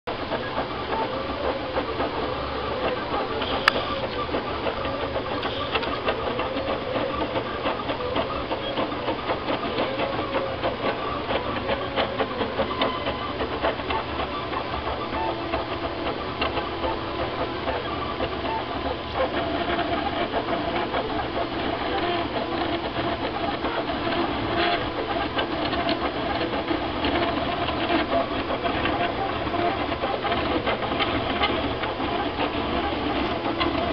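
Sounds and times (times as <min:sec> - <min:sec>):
stepper motors whining: 0:00.1 - 0:33.9
fast clicking: 0:00.4 - 0:33.9.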